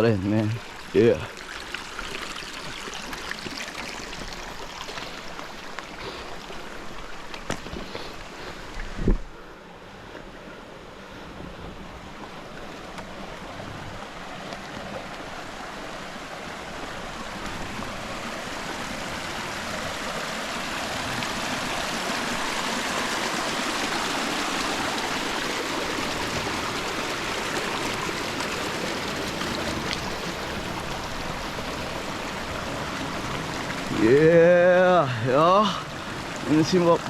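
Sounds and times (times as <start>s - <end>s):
rushing river water: 0.0s - 37.0s.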